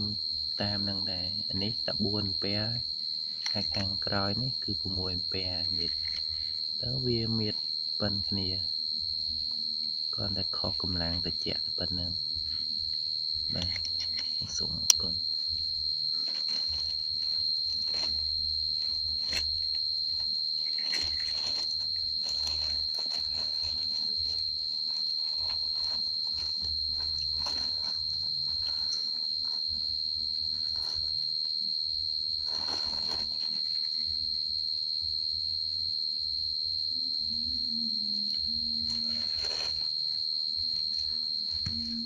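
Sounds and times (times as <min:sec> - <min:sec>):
high-pitched whine: 0:00.0 - 0:42.0.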